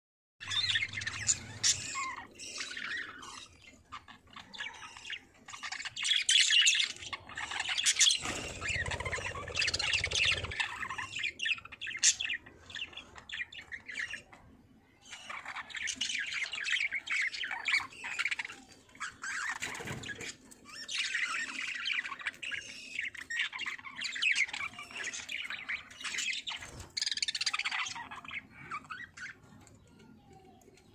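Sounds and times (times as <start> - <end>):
budgerigars chirping and squawking: 0.4 - 30.9.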